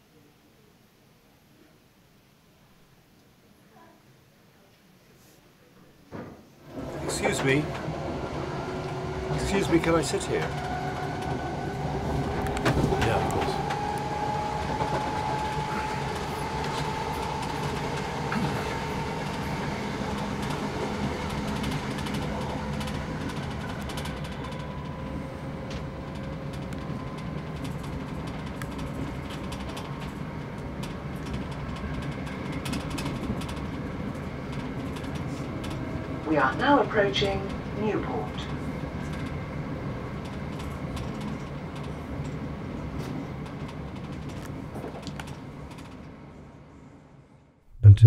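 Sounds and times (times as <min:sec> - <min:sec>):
train rumble: 0:06.7 - 0:46.2.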